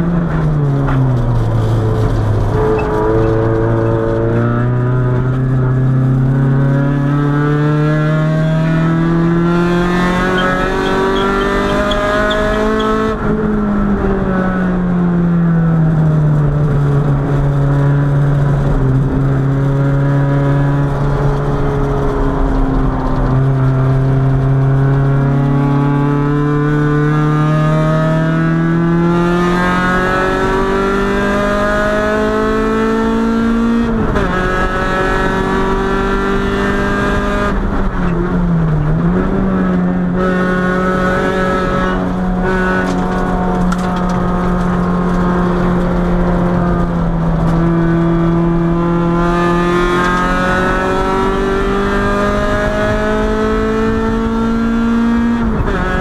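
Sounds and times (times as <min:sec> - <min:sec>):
car engine revving under load: 0:00.0 - 0:15.5, 0:16.6 - 0:56.0.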